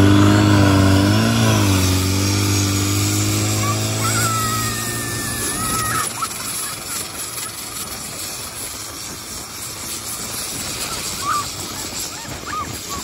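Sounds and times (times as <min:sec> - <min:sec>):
boat engine running: 0:00.0 - 0:13.0
steady rushing noise: 0:00.0 - 0:13.0.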